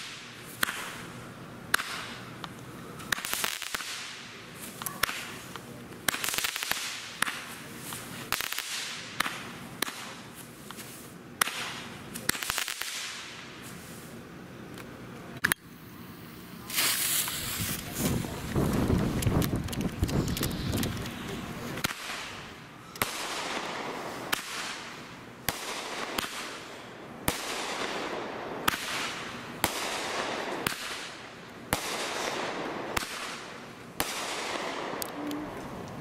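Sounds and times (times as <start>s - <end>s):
fireworks bursting: 0.0s - 14.3s, 15.4s - 36.0s
fireworks hiss and crackle: 0.0s - 36.0s.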